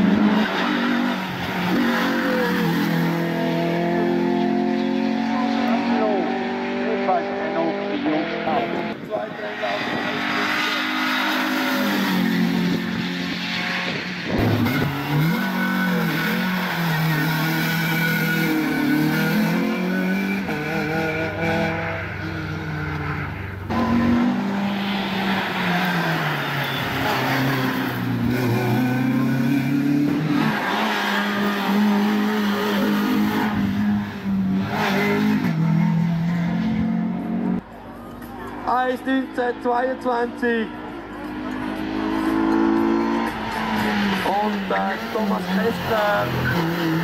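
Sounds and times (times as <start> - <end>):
race car engines revving: 0.0 - 47.0.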